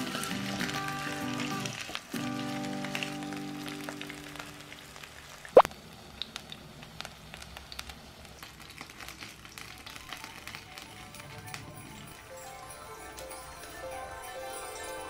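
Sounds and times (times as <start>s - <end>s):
battered leaves sizzling in oil: 0.0s - 15.0s.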